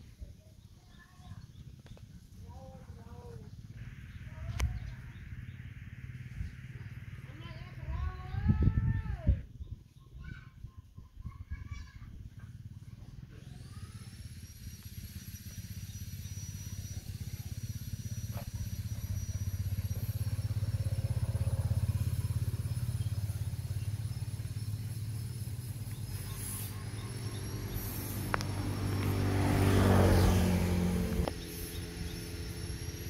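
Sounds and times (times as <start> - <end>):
engine low rumble: 0.0 - 9.9, 11.2 - 33.0
faint high whine: 2.7 - 9.4, 13.2 - 33.0.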